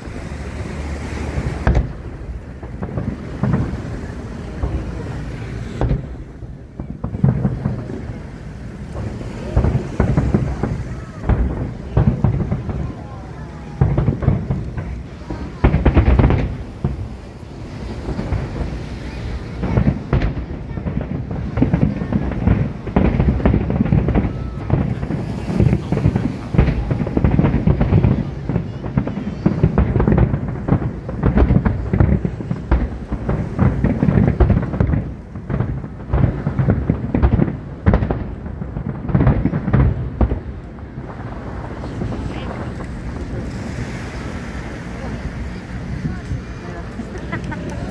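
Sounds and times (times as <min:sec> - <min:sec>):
aerial fireworks booming: 0:00.0 - 0:47.9.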